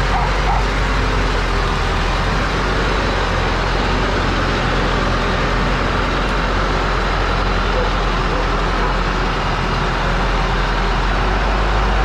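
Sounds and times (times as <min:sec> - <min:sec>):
heavy truck engine rumbling: 0:00.0 - 0:12.0.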